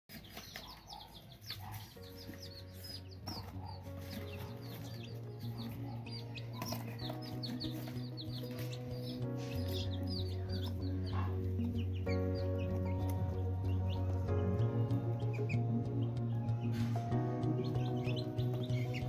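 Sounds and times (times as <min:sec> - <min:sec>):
background music with sustained notes: 0:00.1 - 0:19.0
chicks peeping: 0:00.1 - 0:19.0.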